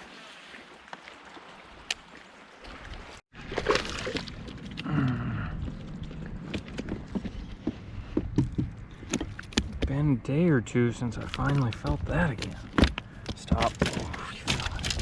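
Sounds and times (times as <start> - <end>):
water splashing around boat: 0.0 - 10.2, 11.0 - 15.0.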